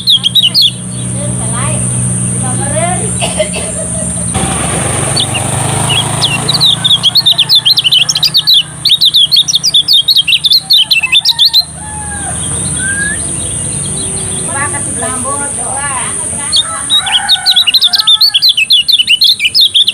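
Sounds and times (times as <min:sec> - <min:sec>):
songbird chirping and twittering: 0:00.0 - 0:19.9.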